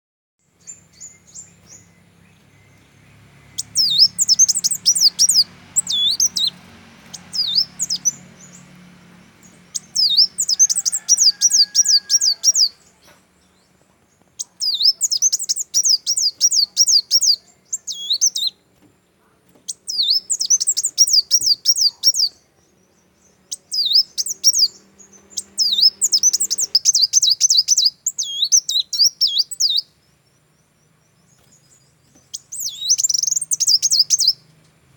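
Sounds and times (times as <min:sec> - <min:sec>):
songbird singing: 0:00.4 - 0:34.9.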